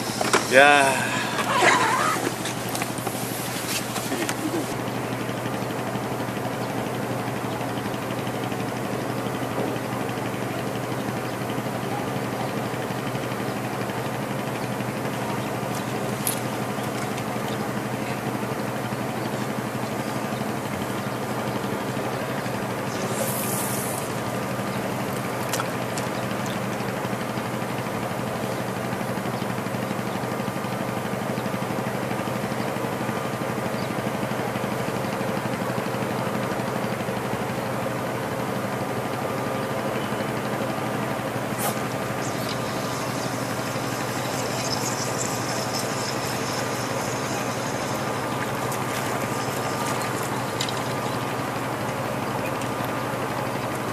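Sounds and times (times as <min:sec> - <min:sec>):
engine droning: 0:00.0 - 0:53.9.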